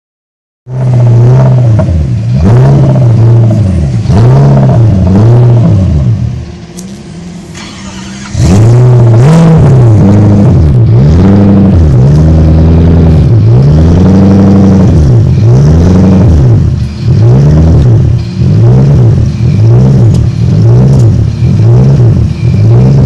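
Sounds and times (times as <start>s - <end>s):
car engine revving hard: 0.7s - 6.4s, 7.3s - 23.0s.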